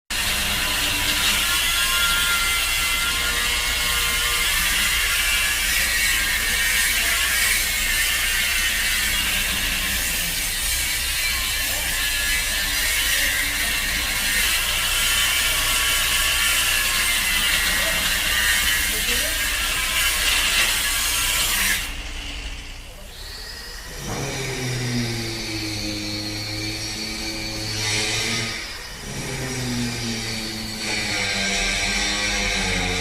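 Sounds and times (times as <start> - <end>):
circular saw whining: 0.1 - 33.0.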